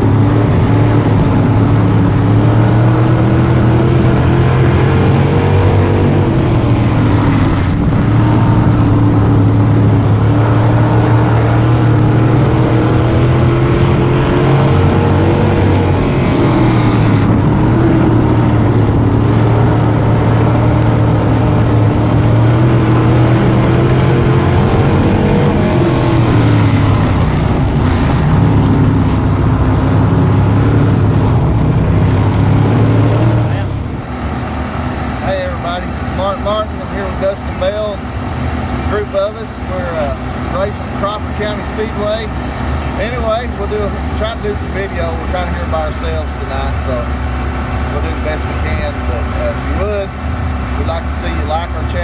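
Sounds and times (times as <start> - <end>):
race car engines running: 0.0 - 52.0.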